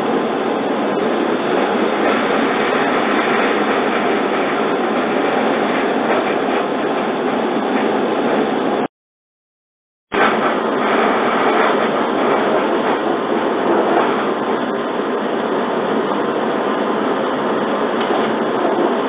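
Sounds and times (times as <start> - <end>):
electric train running: 0.0 - 8.9, 10.2 - 19.0.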